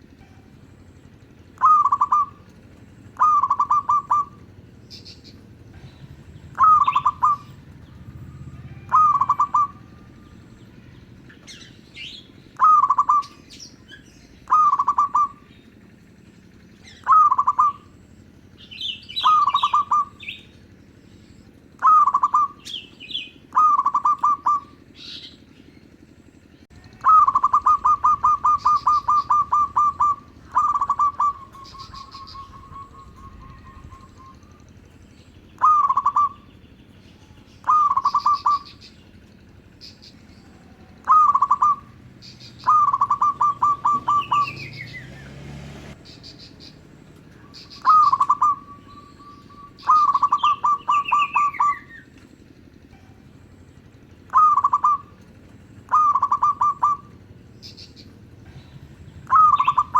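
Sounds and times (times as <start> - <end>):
dove cooing: 0.0 - 25.4, 26.7 - 59.9
small birds chirping: 0.0 - 59.9.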